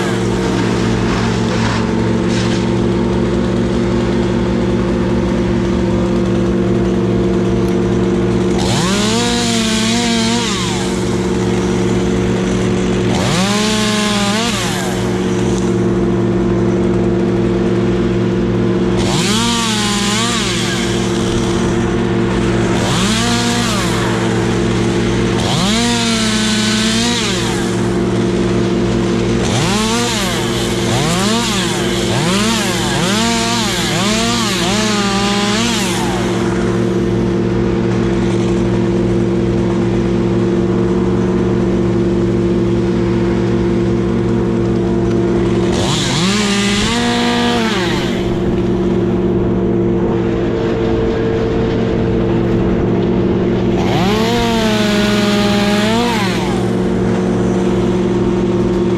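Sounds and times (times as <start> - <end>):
chainsaw revving: 0.0 - 58.9.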